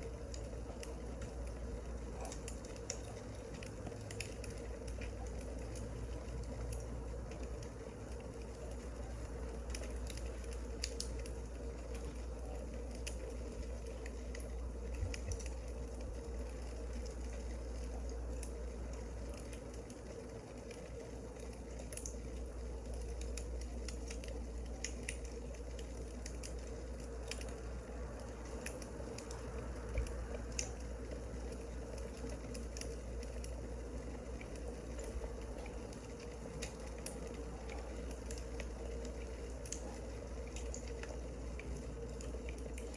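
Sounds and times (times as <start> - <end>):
firewood crackling and popping: 0.0 - 42.9
steady low hum: 0.0 - 42.9.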